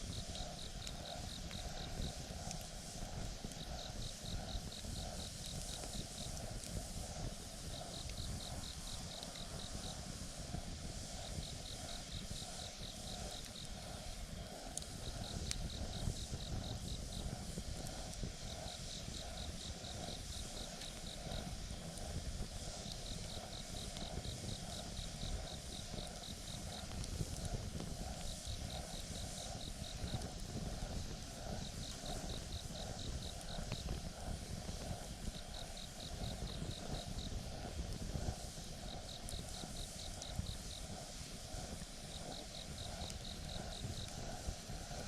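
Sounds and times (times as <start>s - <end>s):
campfire burning: 0.0s - 45.0s
fire pops: 0.1s - 45.0s.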